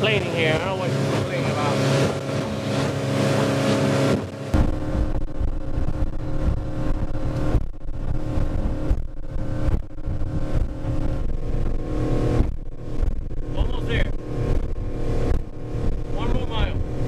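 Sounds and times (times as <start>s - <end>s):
boat motor running: 0.0s - 17.0s
wind and water rushing: 0.0s - 17.0s.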